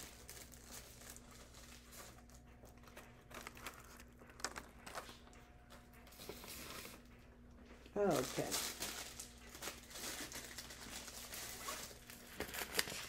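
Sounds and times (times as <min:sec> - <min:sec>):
low steady hum: 0:00.0 - 0:13.0
transfer tape rustling: 0:00.0 - 0:13.0.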